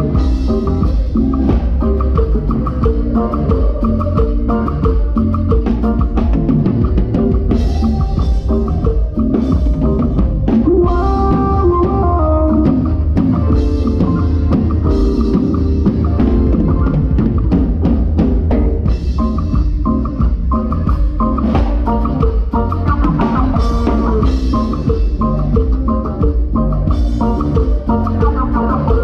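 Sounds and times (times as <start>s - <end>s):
drum kit beat: 0.0s - 29.0s
live band playing: 0.0s - 29.0s.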